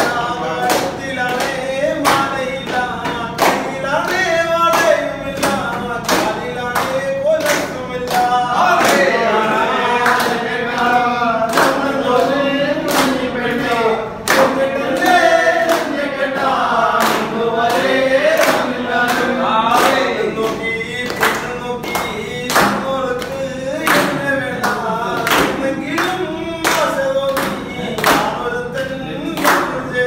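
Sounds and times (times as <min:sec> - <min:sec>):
hand clapping: 0:00.0 - 0:30.0
men singing together: 0:00.0 - 0:30.0.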